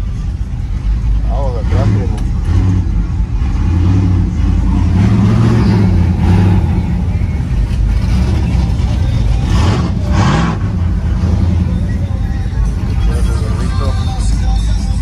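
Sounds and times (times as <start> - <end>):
pickup truck engines running: 0.0 - 15.0.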